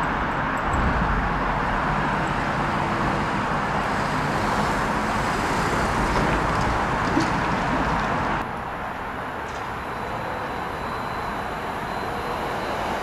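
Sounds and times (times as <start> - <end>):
diesel train approaching: 0.0 - 13.0.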